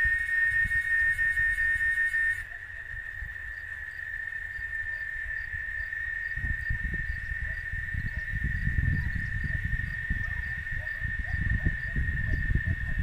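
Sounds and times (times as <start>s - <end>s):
cicada buzzing whine: 0.0s - 13.0s.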